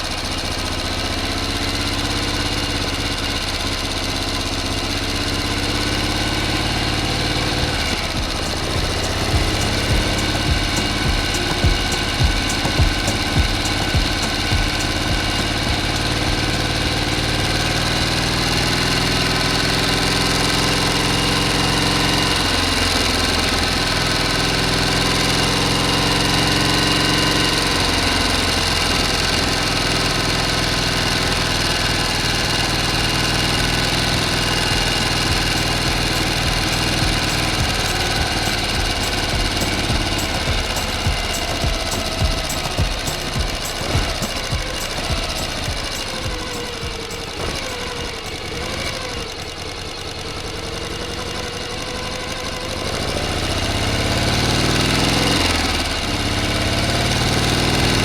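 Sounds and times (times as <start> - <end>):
miniature model engine running: 0.0 - 58.0.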